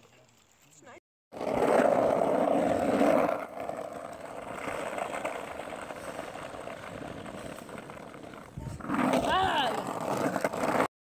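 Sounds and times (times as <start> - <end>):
skateboard wheels rolling on asphalt: 0.2 - 10.9.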